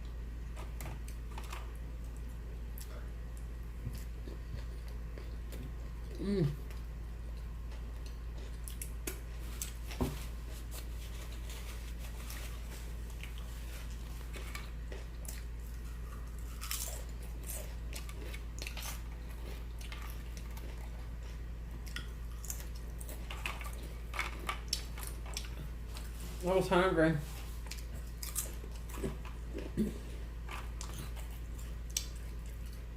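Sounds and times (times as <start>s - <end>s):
person chewing and crunching: 0.0s - 26.4s, 27.3s - 32.9s.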